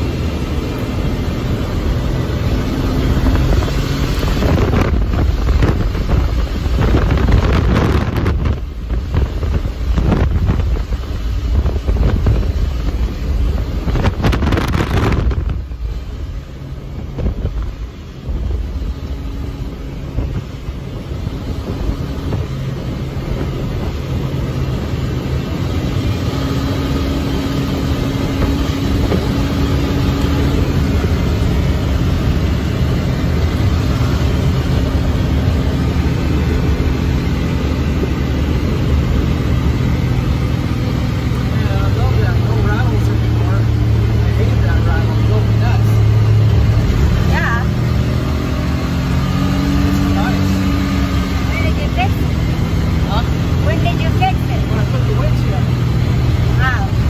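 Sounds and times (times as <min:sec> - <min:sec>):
vehicle engine running: 0:00.0 - 0:57.0
wind buffeting microphone: 0:00.0 - 0:57.0.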